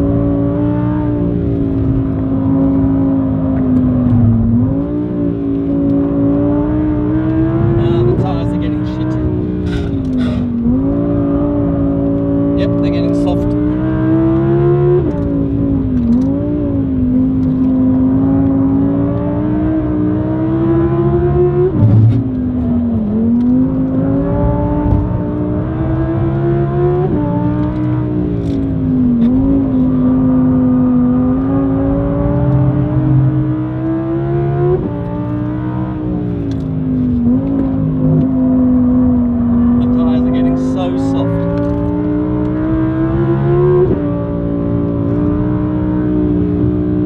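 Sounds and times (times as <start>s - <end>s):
car engine revving: 0.0s - 47.0s
tyre and road rumble: 1.4s - 19.2s, 20.9s - 47.0s.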